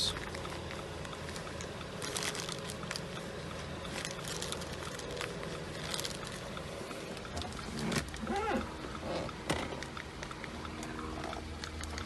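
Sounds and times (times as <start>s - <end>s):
low hum inside car: 0.0s - 12.0s
faint clicks and ticks: 0.1s - 12.0s.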